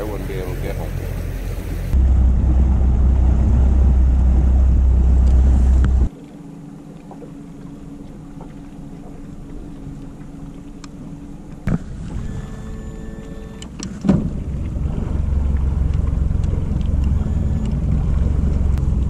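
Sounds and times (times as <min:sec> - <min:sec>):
outboard motor running: 0:00.0 - 0:06.1, 0:07.1 - 0:19.0.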